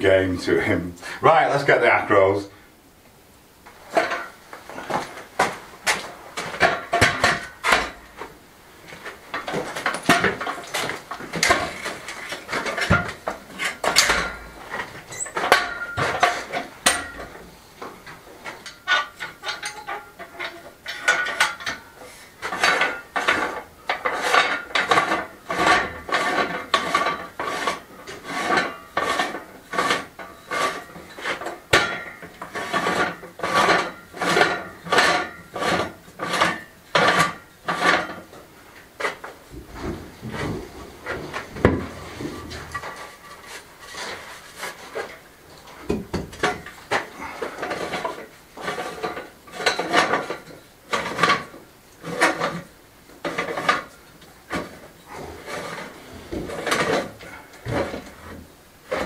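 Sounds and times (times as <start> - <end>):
metal tubes clanking and rattling: 3.8 - 59.0.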